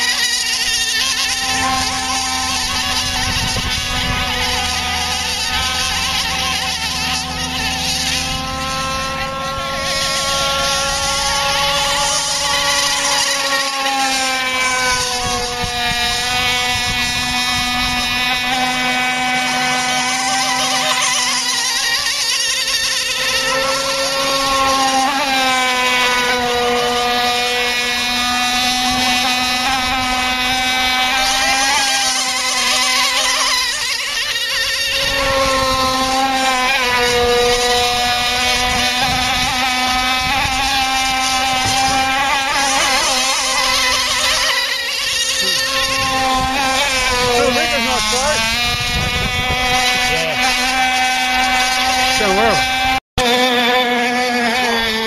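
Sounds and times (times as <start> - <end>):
model speedboat engines droning: 0.0 - 55.0.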